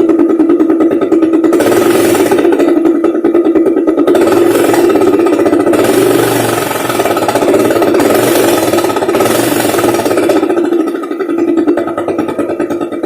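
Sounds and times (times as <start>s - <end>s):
scooter engine with rattling exhaust: 0.0s - 13.0s.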